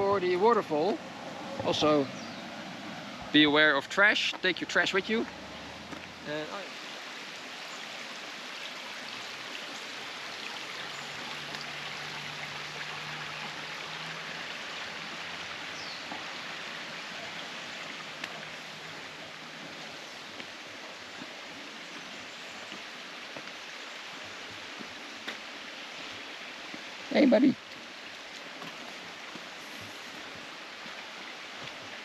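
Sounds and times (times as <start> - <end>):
stream running water: 0.0 - 32.0.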